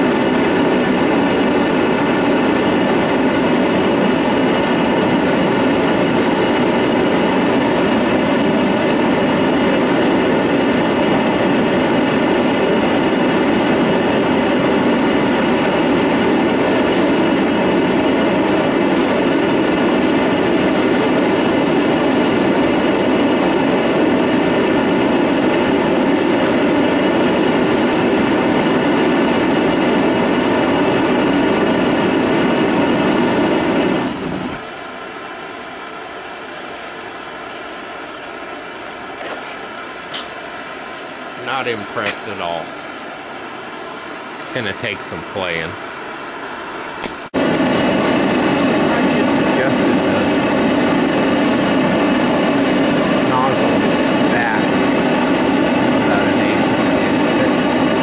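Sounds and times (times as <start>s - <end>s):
propane burner roaring: 0.0s - 58.0s.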